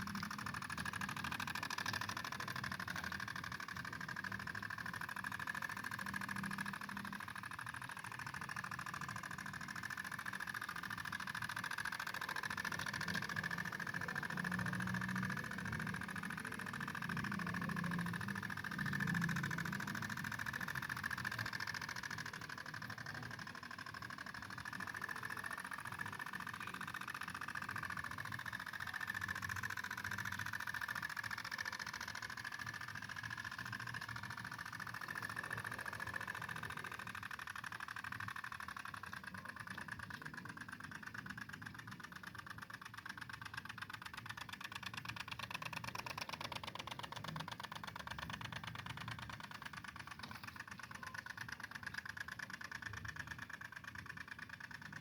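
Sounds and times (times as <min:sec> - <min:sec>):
mini tiller engine running: 0:00.0 - 0:55.0.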